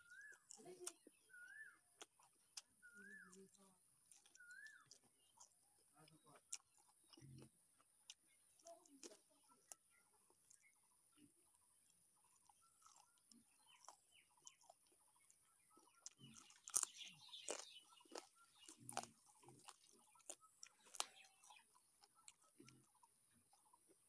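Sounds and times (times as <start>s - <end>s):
chewing: 0.0s - 24.0s
crunchy bites: 0.0s - 24.0s.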